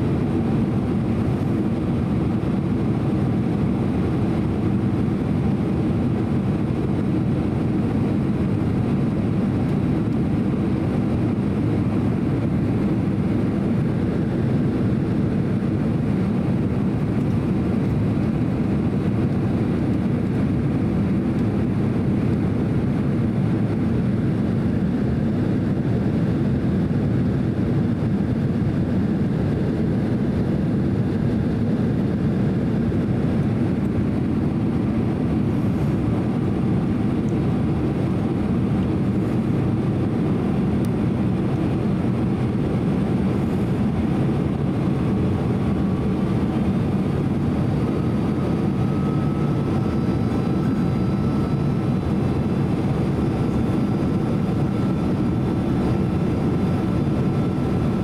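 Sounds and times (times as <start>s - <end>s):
airliner cabin airflow and jet engines: 0.0s - 58.0s.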